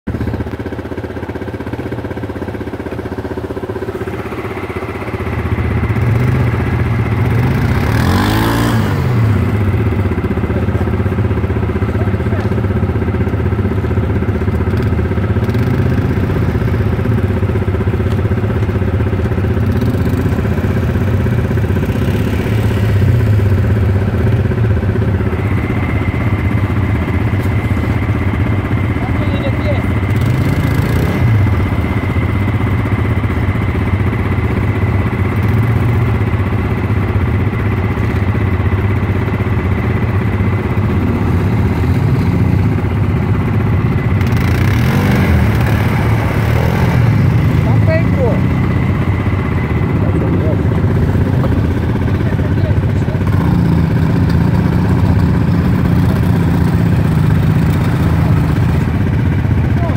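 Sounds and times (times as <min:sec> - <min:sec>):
quad bike engines running: 0:00.0 - 0:59.9
quad bike engine revving: 0:00.1 - 0:59.9.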